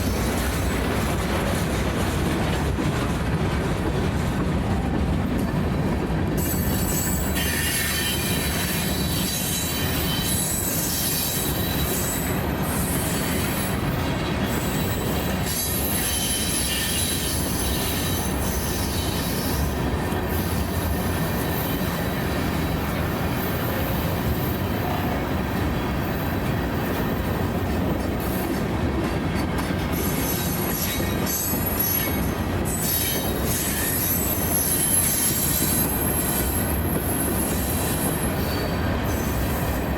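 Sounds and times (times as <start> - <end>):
train wheels squealing on rails: 0.0 - 3.0, 6.3 - 39.9
train cars rumbling: 0.0 - 39.9.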